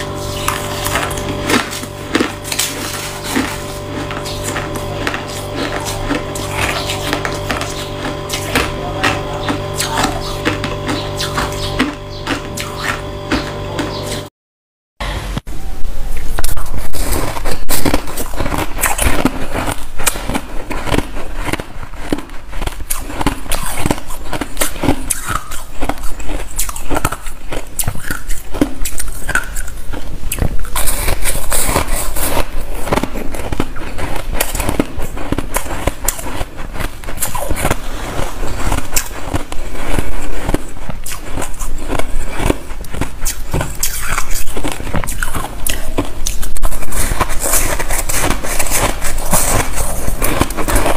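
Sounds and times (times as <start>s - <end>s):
ice crunching being chewed: 0.0s - 14.3s, 16.2s - 50.9s.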